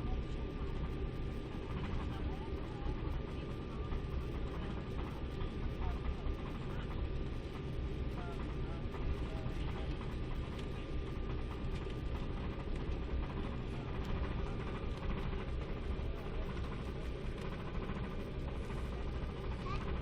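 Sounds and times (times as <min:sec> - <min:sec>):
faint steady whine: 0:00.0 - 0:20.0
jet engine cabin rumble: 0:00.0 - 0:20.0.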